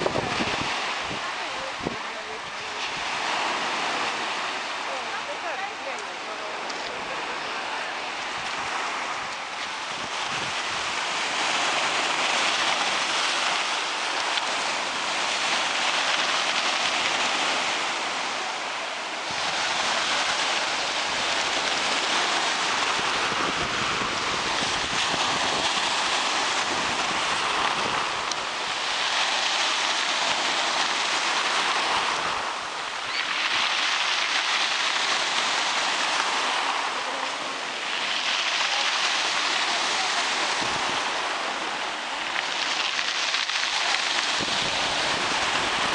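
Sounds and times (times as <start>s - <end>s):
waves breaking on shore: 0.0s - 45.9s.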